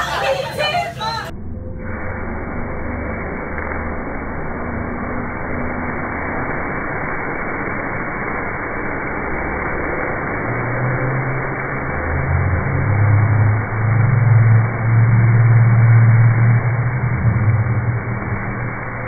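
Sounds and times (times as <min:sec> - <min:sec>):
low hum: 0:00.0 - 0:19.0
hot oil sizzling: 0:01.7 - 0:19.0.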